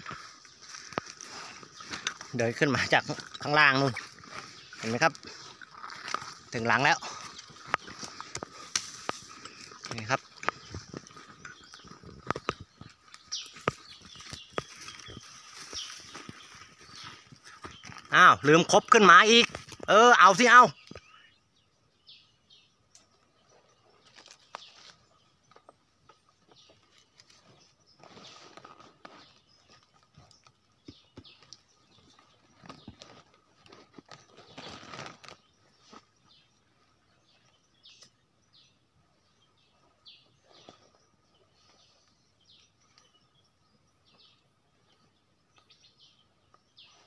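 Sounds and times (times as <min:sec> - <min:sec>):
bird chirps: 0:00.0 - 0:47.0.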